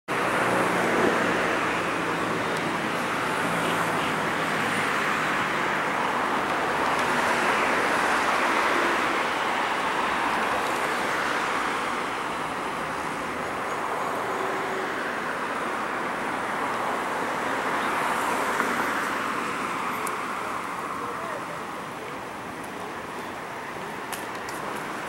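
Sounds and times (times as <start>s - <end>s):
road traffic noise: 0.1s - 25.0s.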